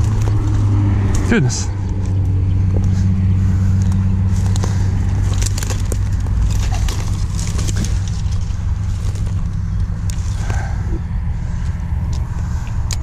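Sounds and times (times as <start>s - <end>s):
motor traffic drone: 0.0s - 13.0s.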